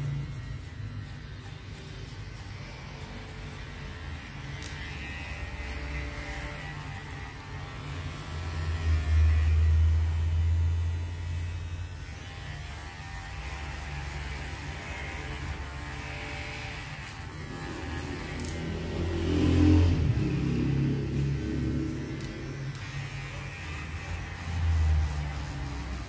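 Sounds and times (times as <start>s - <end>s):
hair clipper buzzing: 0.0s - 26.0s.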